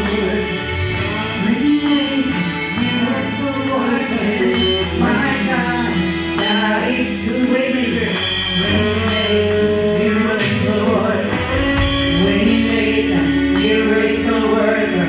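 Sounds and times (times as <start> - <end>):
person singing long notes: 0.0 - 15.0
worship band playing: 0.0 - 15.0.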